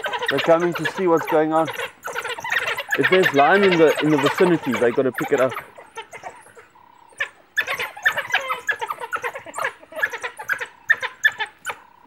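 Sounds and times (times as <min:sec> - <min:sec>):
wild dogs chirping: 0:00.0 - 0:12.0.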